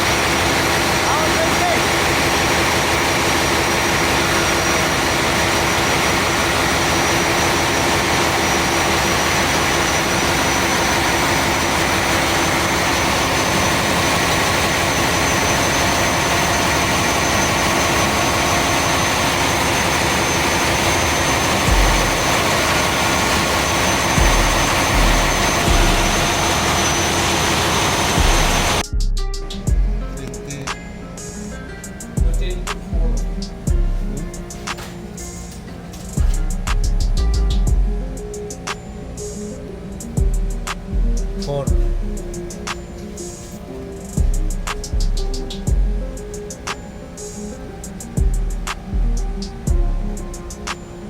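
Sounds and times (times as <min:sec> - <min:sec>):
diesel engines running: 0:00.0 - 0:51.0
steady high whine: 0:00.0 - 0:51.0.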